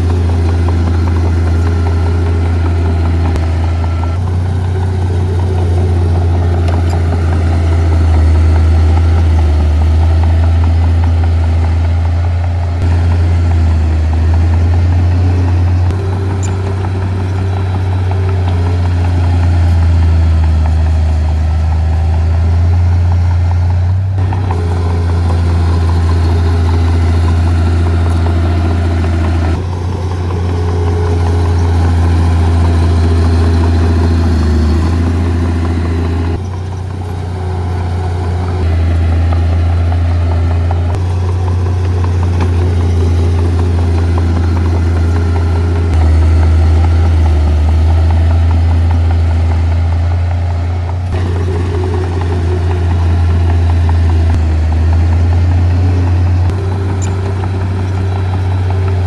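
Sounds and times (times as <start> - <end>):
heavy diesel engine humming: 0.0 - 59.0.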